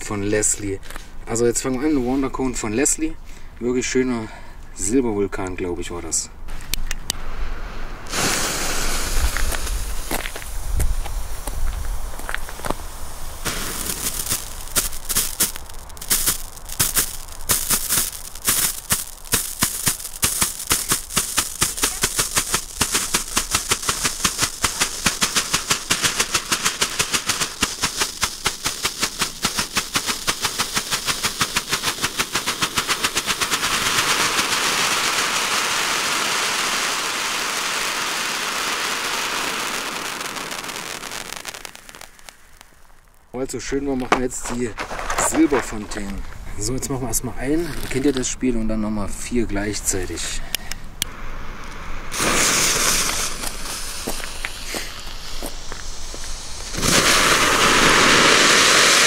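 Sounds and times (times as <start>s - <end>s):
firework crackling pops: 6.5s - 48.4s, 49.9s - 59.0s
spark fountain hissing: 7.0s - 46.7s, 51.0s - 59.0s.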